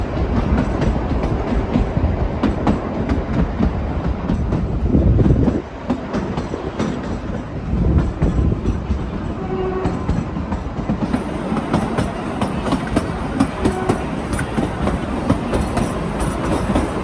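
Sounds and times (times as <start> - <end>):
train rumbling on rails: 0.0 - 17.0
train wheels clicking and knocking: 0.0 - 17.0.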